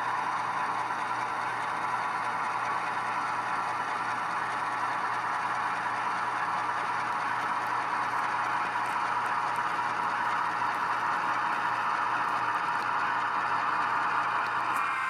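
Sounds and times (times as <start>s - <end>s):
model locomotive rattling and hissing: 0.0s - 15.0s.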